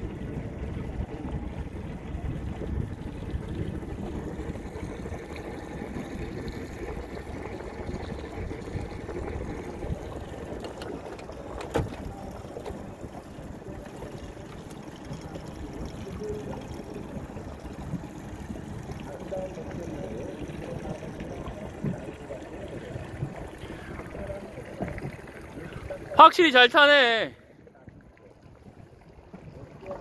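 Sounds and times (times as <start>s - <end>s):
water lapping against boat: 0.0s - 30.0s.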